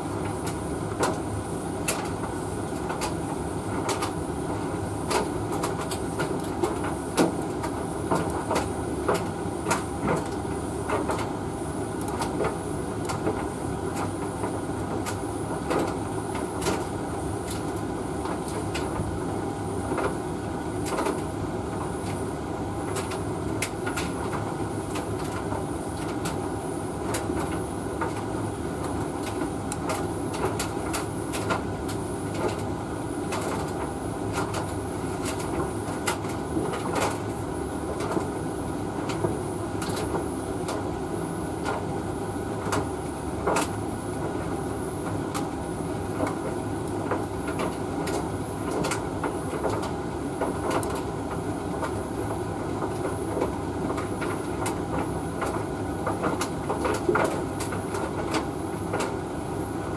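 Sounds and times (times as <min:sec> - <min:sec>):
tumble dryer droning: 0:00.0 - 0:59.9.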